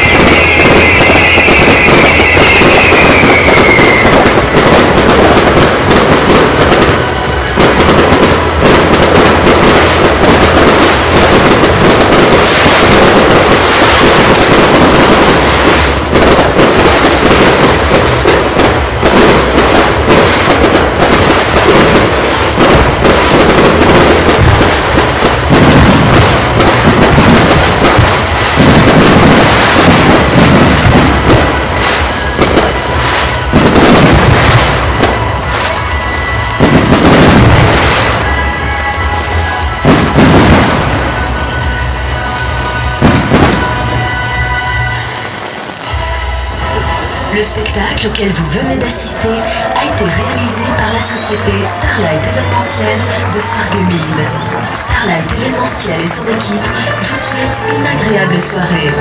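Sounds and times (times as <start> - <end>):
falling firework whistle: 0.0 - 47.6
fireworks bangs and crackles: 0.0 - 59.0.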